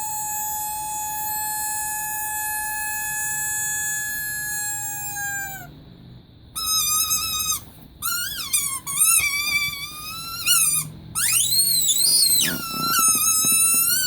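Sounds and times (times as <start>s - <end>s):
squeaky toy squeaks: 0.0s - 5.7s, 6.5s - 14.0s
steady squeal: 0.0s - 14.0s.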